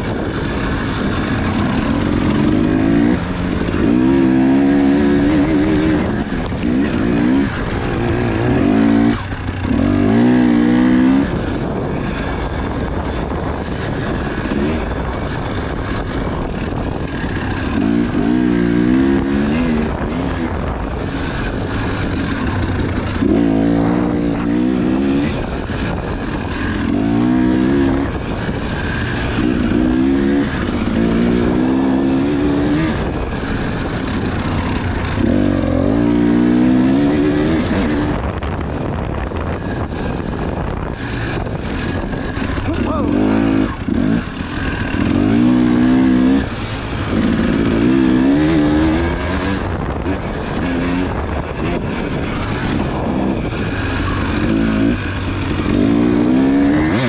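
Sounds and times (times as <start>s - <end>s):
dirt bike engine revving: 0.0s - 57.0s
wind noise: 0.0s - 57.0s.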